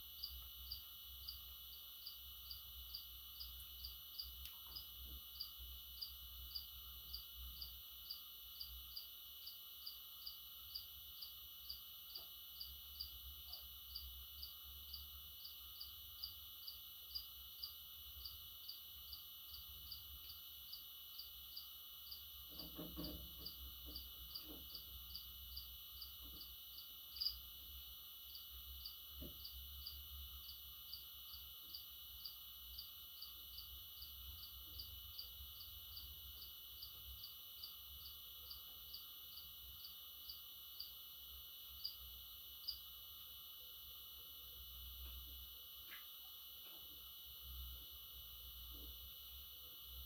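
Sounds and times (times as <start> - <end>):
faint cricket chirping: 0.0 - 50.0.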